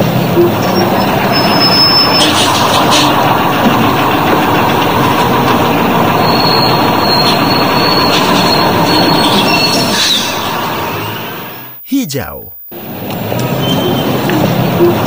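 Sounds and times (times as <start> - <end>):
bus engine running: 0.0 - 11.7, 12.8 - 15.0.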